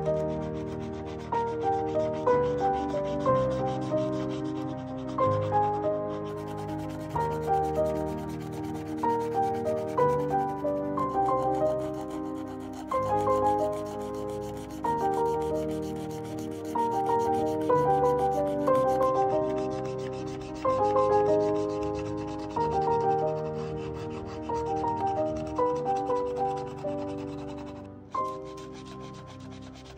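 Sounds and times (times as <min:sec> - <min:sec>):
marker tip rubbing on paper: 0:00.0 - 0:29.9.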